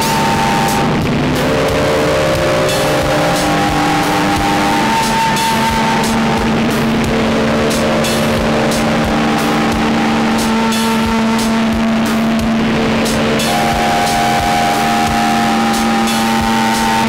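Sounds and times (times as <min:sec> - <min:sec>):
synthesizer noise music: 0:00.0 - 0:17.0.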